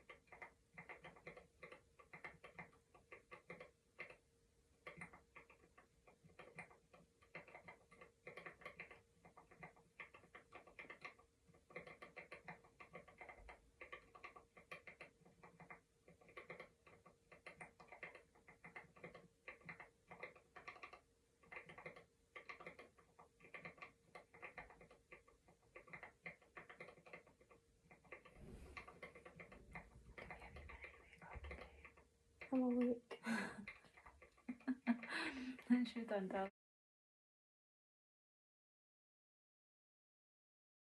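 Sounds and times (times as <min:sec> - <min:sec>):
keyboard typing: 0:00.0 - 0:36.2.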